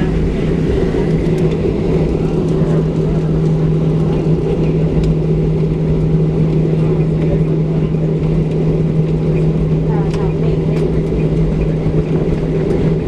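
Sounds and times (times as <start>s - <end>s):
airplane cabin drone: 0.0s - 13.0s.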